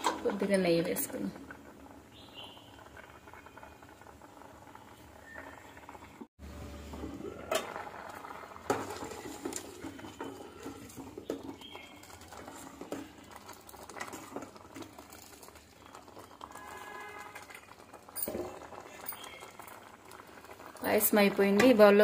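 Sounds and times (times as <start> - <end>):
soft bubbling of simmering liquid: 0.0 - 22.0.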